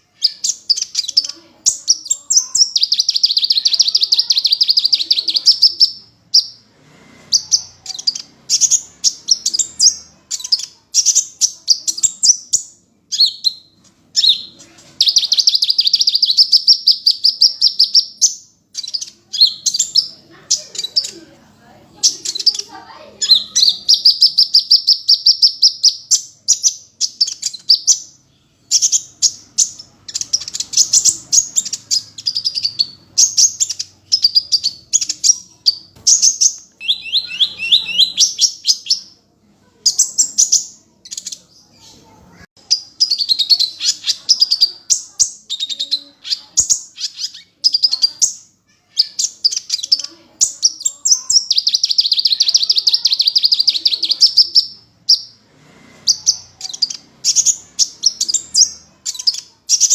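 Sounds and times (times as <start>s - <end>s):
bird trilling and chirping: 0.0s - 59.9s.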